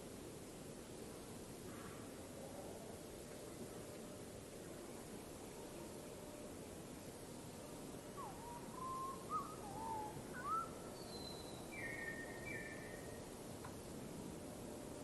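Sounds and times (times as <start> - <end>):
steady hiss: 0.0 - 15.0
songbird singing: 1.0 - 15.0.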